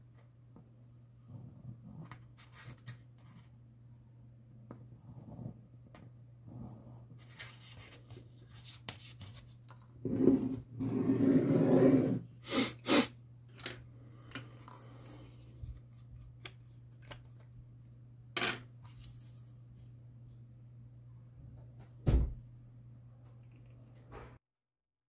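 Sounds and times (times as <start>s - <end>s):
faint steady hum: 0.0s - 24.4s.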